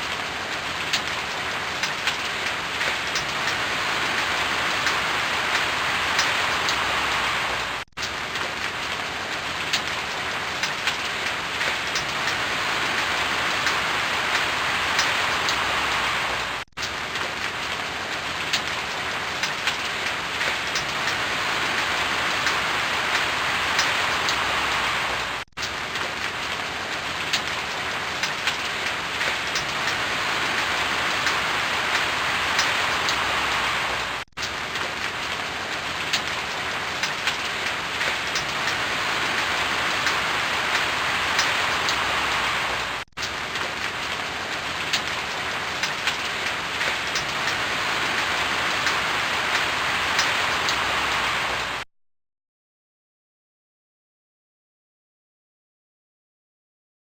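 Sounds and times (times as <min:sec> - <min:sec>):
rain drop ticks: 0:00.0 - 0:51.8
steady rain hissing: 0:00.0 - 0:51.9.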